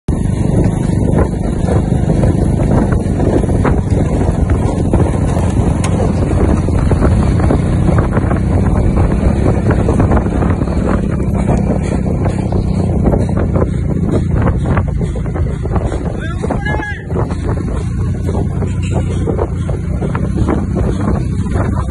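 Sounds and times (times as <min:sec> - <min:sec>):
vehicle motor running: 0:00.1 - 0:21.9
wind rumble on microphone: 0:00.1 - 0:21.9.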